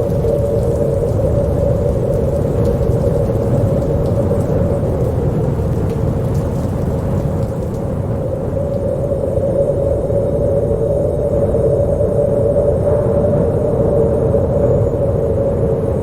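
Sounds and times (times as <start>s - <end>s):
wind howling: 0.0s - 16.0s.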